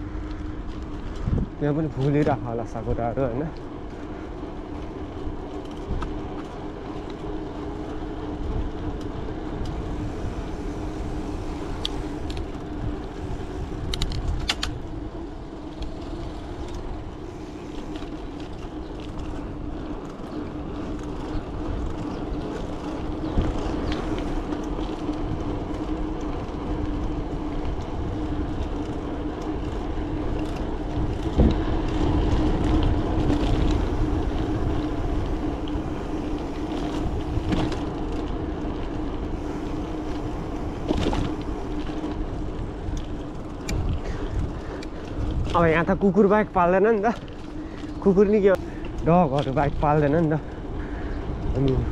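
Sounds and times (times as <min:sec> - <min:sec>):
bike clicks and rattles: 0:00.0 - 0:51.9
bike tyres humming on pavement: 0:00.0 - 0:51.9
low wind rumble: 0:00.0 - 0:51.9.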